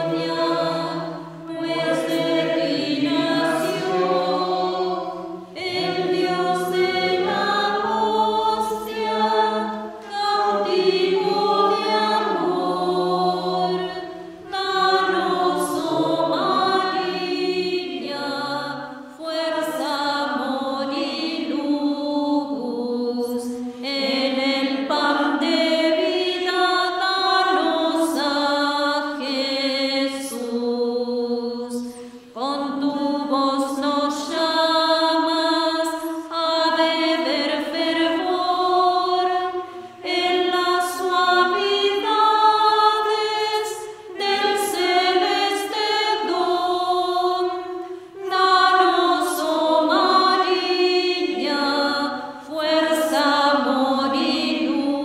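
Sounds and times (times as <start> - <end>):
choir singing a hymn: 0.0 - 55.0.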